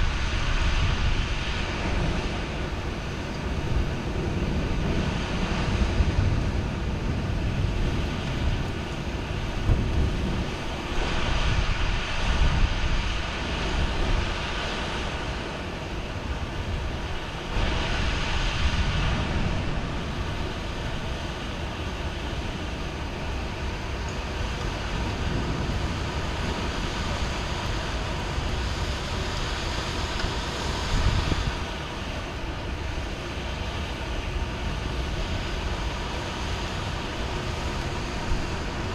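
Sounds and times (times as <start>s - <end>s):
heavy rain: 0.0s - 38.9s
rolling thunder rumbles: 0.0s - 38.9s.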